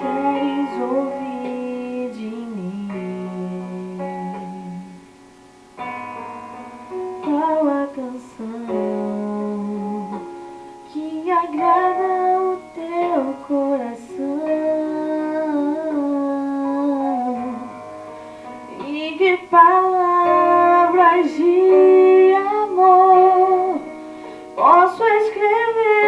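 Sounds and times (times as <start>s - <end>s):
held instrumental chords: 0.0s - 26.0s.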